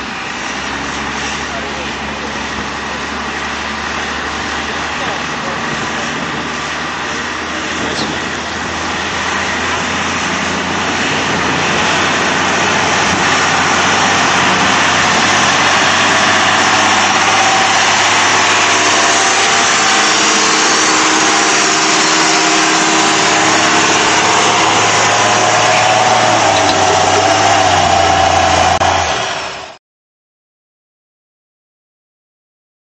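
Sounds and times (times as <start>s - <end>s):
diesel engine running under load: 0.0s - 29.8s.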